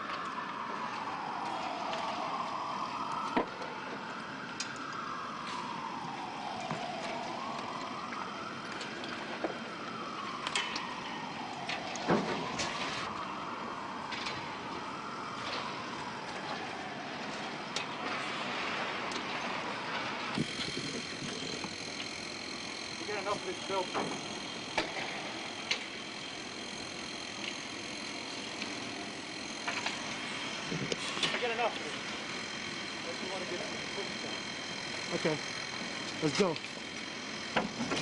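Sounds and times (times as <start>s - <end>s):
siren wailing: 0.0s - 38.0s
street noise: 0.0s - 38.0s.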